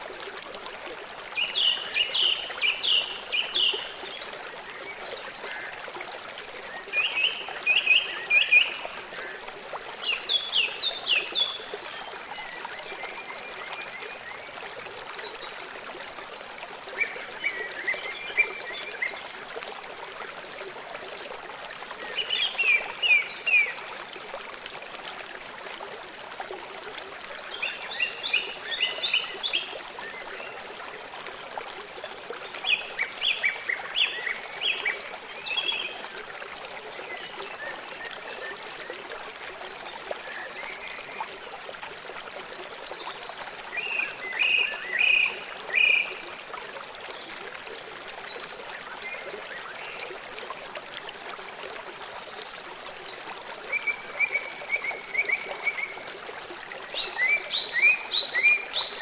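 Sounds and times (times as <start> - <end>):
running stream water: 0.0 - 59.0.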